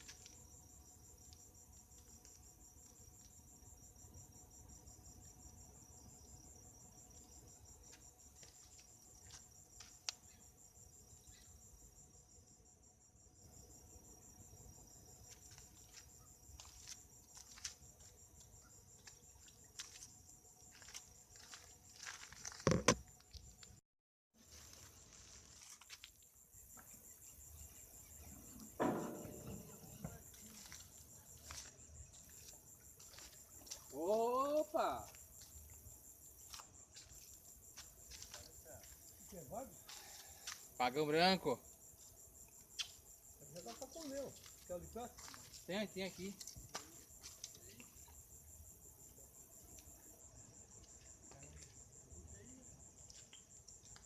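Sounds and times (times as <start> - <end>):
insects chirping: 0.0 - 23.8, 24.4 - 54.0.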